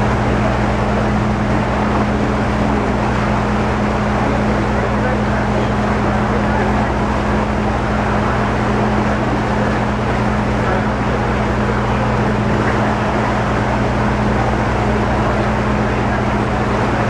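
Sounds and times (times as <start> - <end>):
ferry engines droning: 0.0 - 17.0
rushing water wash: 0.0 - 17.0.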